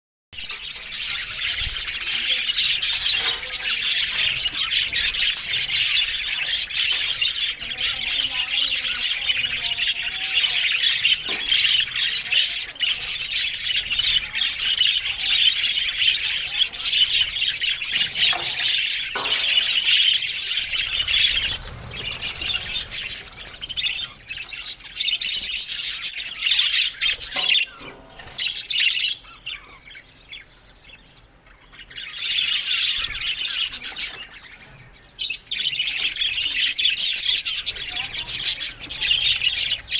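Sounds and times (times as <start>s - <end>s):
budgerigars chattering and squawking: 0.4s - 39.9s.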